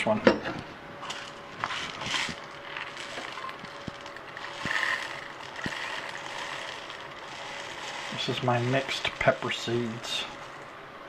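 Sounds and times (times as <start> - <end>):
soft rustles: 1.0 - 10.7.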